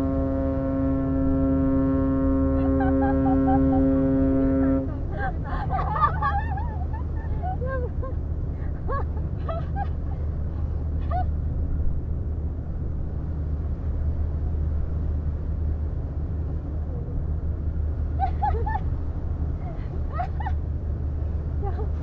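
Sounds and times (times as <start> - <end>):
sea noise: 0.0 - 22.0
ship engines droning: 0.0 - 22.0
wind: 0.0 - 22.0.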